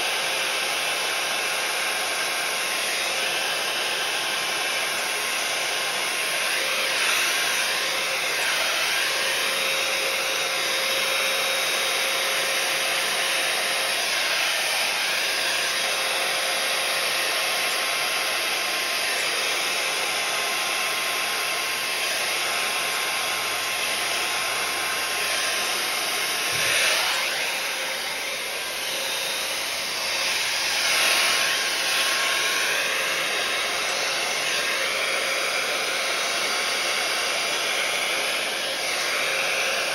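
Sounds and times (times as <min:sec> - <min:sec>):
heat gun blowing: 0:00.0 - 0:39.9.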